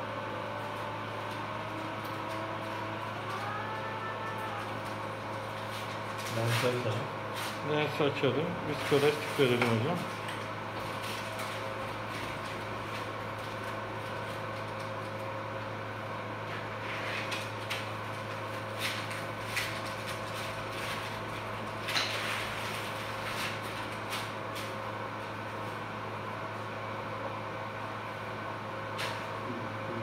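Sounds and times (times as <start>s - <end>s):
equipment hum: 0.0s - 30.0s.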